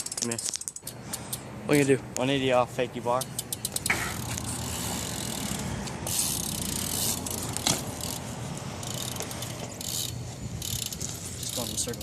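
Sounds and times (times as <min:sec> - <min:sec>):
bike rear hub ratcheting: 0:00.0 - 0:01.5, 0:03.0 - 0:12.0.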